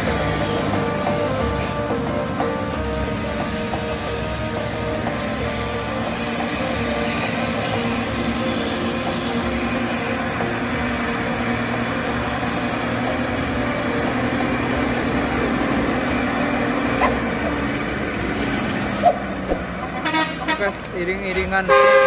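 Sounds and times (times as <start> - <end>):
truck diesel engines droning: 0.0 - 22.0
vehicles passing: 0.0 - 22.0.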